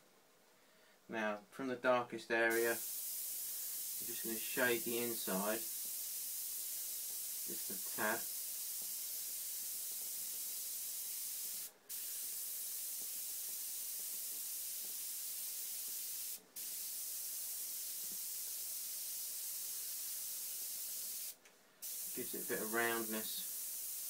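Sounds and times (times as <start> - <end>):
airbrush spraying hiss: 2.5 - 24.0.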